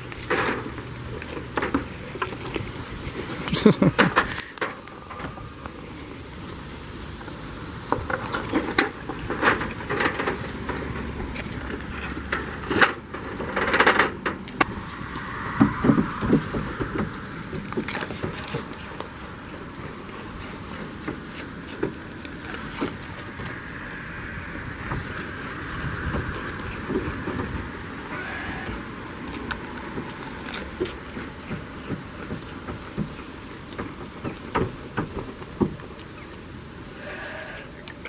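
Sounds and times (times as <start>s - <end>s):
goat hooves on wooden planks: 0.0s - 38.0s.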